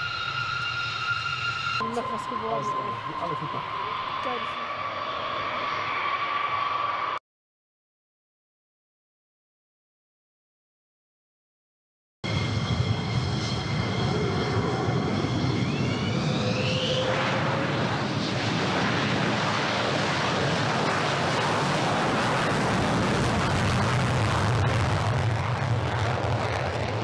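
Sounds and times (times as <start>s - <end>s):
jet engines whining: 0.0s - 7.2s, 12.3s - 27.0s
rushing jet noise: 0.0s - 7.2s, 12.3s - 27.0s.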